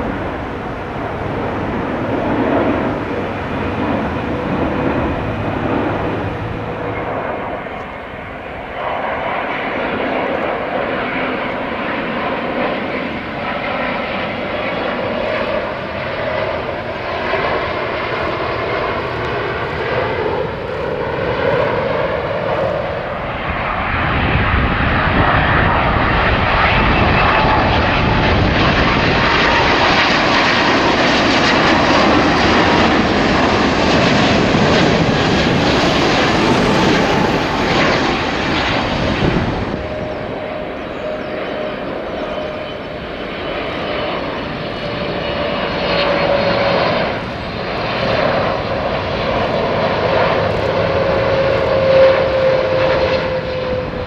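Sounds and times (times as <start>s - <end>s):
jet airliner flying low overhead: 0.0s - 54.0s.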